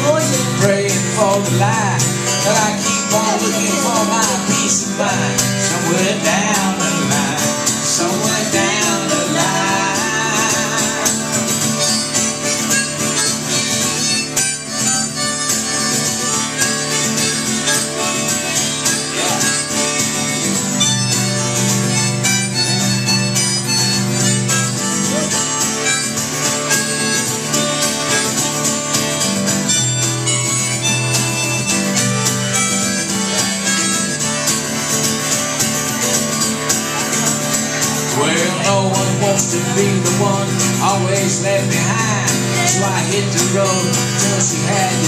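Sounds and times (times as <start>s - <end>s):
harmonica: 0.0s - 45.0s
strummed guitar: 0.0s - 45.0s.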